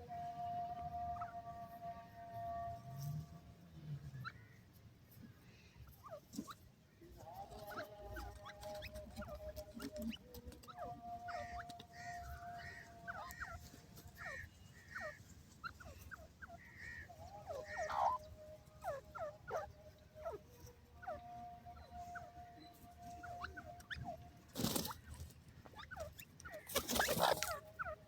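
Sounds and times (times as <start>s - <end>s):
faint steady tone: 0.0s - 26.5s
birds chirping: 0.0s - 28.0s.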